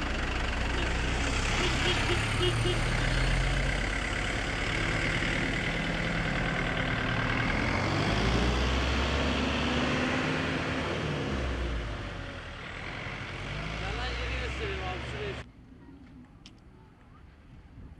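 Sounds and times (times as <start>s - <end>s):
heavy vehicle engine running: 0.0s - 15.5s.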